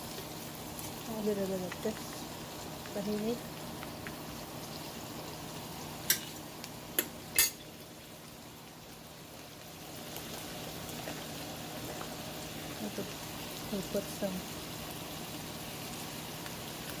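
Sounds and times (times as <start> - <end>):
food hissing in a pan: 0.0 - 17.0.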